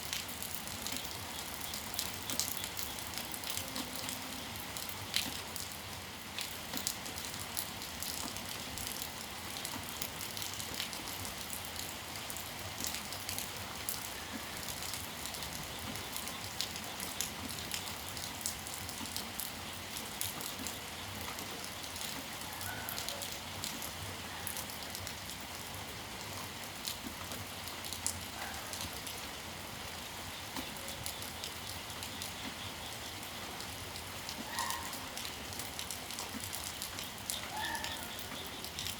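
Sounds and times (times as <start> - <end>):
raindrops splashing on surfaces: 0.0 - 38.9
steady rain: 0.0 - 38.9.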